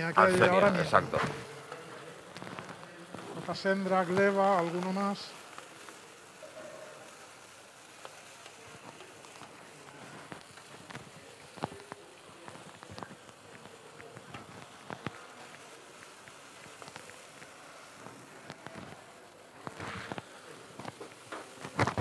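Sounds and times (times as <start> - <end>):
gas burner hissing: 0.0 - 22.0
rice and broth bubbling: 0.0 - 22.0.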